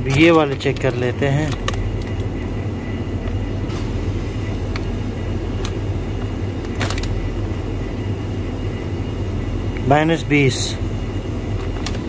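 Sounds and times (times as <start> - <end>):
freezer humming: 0.0 - 12.0.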